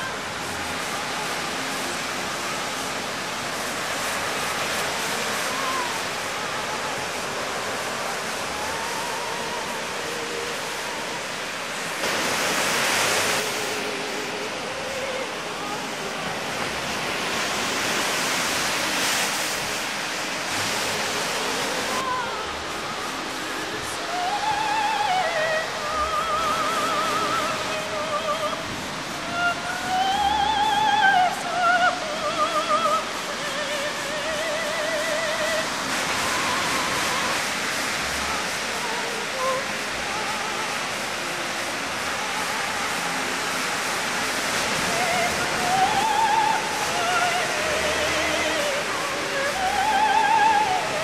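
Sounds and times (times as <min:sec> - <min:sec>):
faint operatic singing voice: 0:00.0 - 0:51.0
waves breaking on sand beach: 0:00.0 - 0:51.0.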